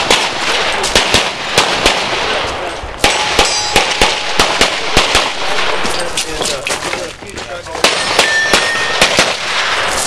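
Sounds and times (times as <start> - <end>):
pistol shots: 0.0 - 5.9, 7.8 - 10.0.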